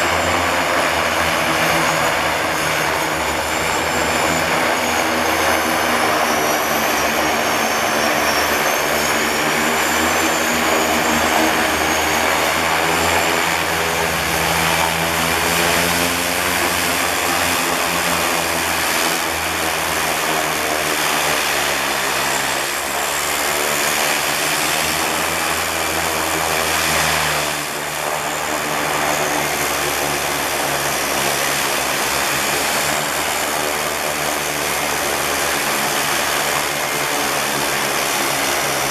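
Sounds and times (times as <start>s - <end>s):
high turbine whine: 0.0s - 38.9s
propeller drone: 0.0s - 38.9s.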